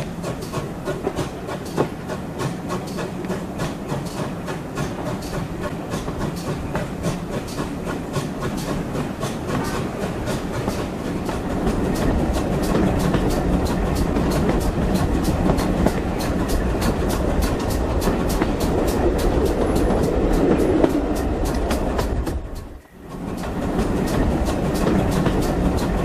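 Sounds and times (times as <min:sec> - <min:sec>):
train running on track: 0:00.0 - 0:26.0.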